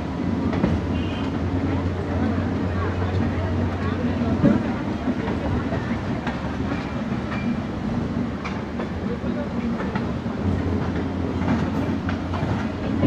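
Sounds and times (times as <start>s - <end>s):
train rumble: 0.0s - 13.0s
wheels clicking over rail joints: 0.4s - 13.0s.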